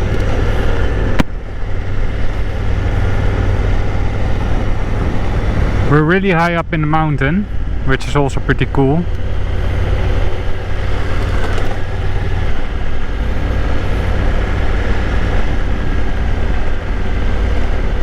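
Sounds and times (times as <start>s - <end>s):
motorcycle engine rumbling: 0.0s - 18.0s
road noise: 0.0s - 18.0s.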